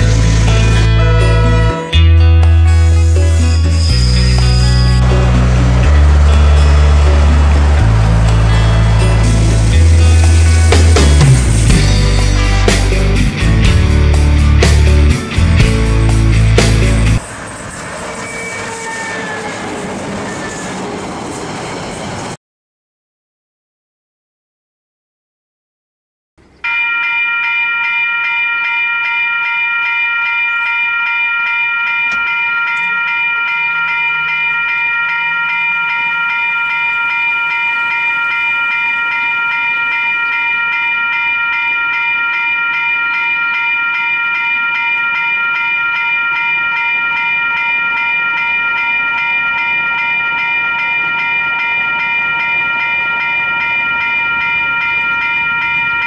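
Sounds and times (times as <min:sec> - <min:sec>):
level-crossing warning bells ringing: 0:00.0 - 0:22.4, 0:26.4 - 0:56.0.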